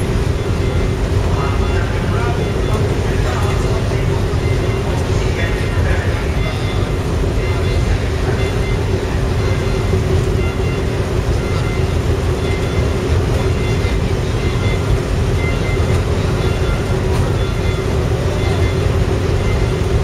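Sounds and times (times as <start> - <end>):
ship machinery rumbling: 0.0 - 20.0.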